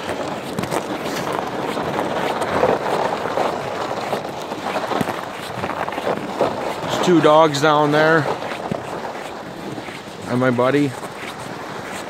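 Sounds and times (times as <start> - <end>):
footsteps crunching on snow: 0.0 - 12.0
wind rumbling on microphone: 0.0 - 12.0.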